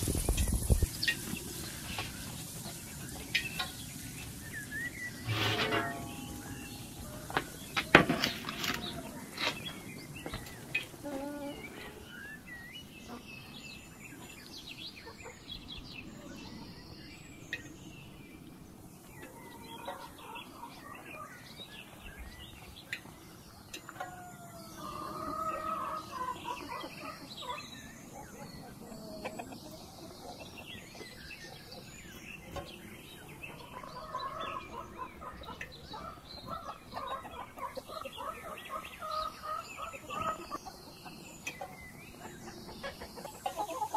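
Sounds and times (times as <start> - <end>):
chickens clucking: 0.0 - 16.8, 19.0 - 43.9
small birds chirping: 0.0 - 43.9.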